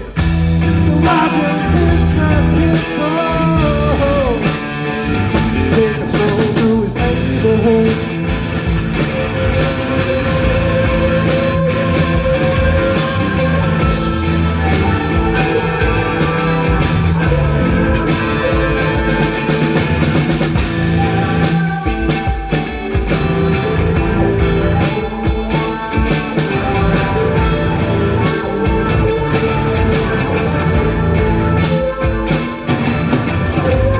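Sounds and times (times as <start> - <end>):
drum kit beat: 0.0 - 33.9
live rock band playing: 0.0 - 33.9.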